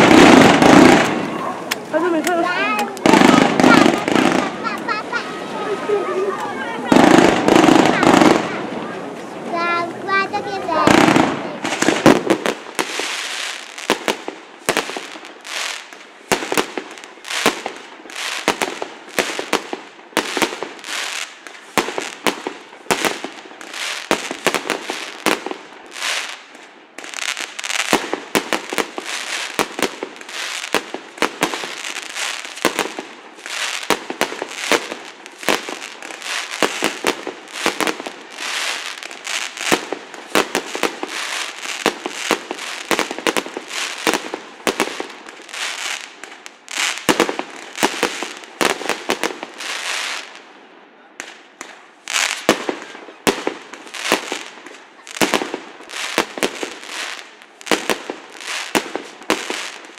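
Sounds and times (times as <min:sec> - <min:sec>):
fireworks banging and crackling: 0:00.0 - 0:59.9.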